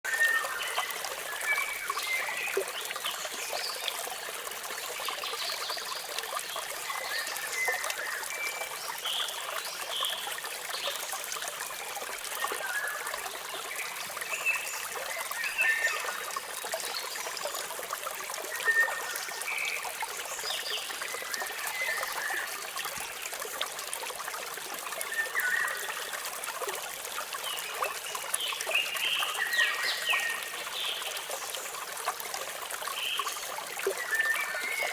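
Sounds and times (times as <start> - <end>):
waterfall trickling hiss: 0.2 - 34.9.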